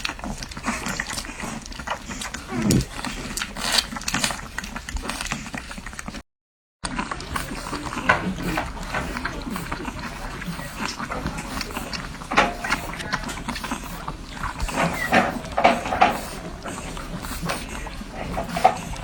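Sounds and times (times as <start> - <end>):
puppies suckling wet smacking: 0.0 - 6.2, 6.8 - 19.0.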